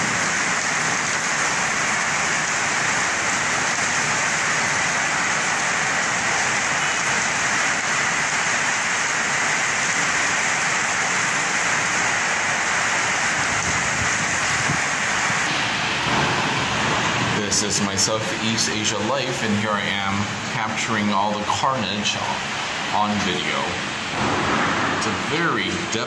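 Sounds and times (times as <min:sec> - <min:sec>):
heavy rain on pavement: 0:00.0 - 0:26.0.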